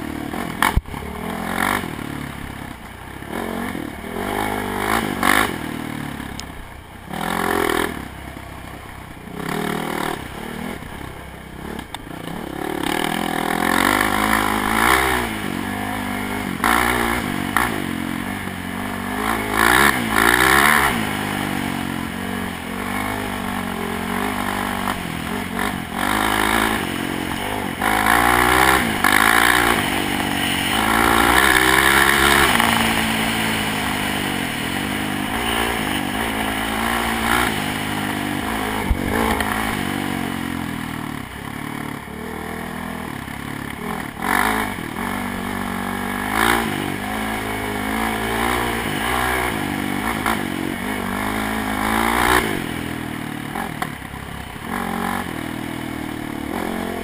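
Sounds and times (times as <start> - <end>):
atv engine revving: 0.0 - 57.0
vehicle rattling on rough trail: 0.0 - 57.0.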